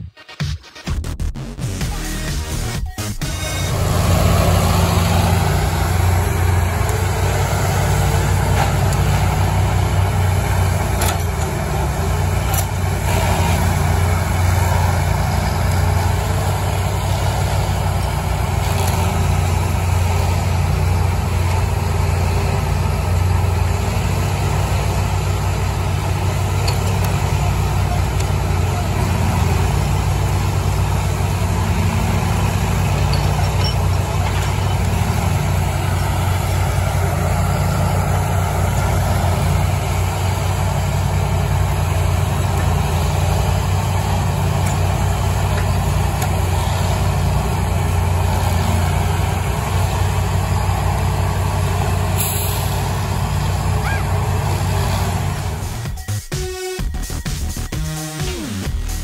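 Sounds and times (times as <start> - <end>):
truck engine running: 1.4 - 59.0.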